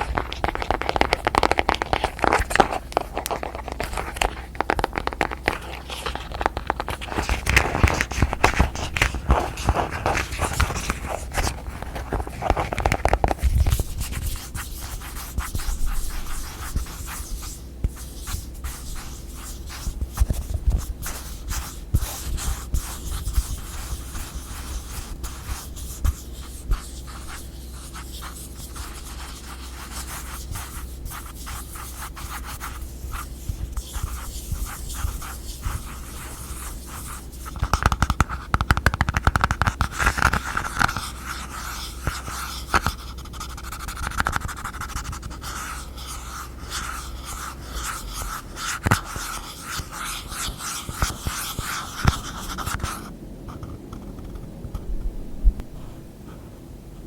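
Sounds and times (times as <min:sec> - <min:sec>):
tapping and scratching on containers: 0:00.0 - 0:15.7, 0:20.0 - 0:53.0.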